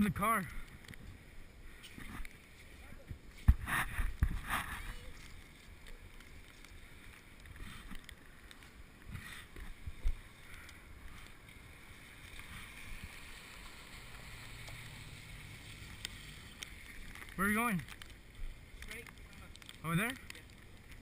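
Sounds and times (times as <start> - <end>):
bicycle tyres on wet slush: 0.0 - 21.0.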